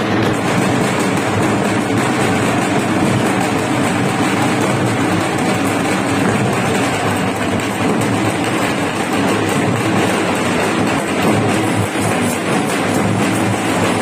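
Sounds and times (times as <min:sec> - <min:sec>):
hand drums beating: 0:00.0 - 0:14.0.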